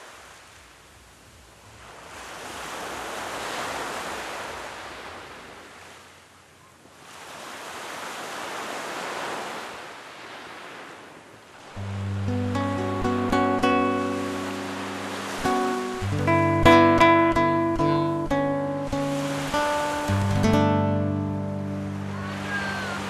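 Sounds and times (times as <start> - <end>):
sea waves washing in: 0.0 - 23.0.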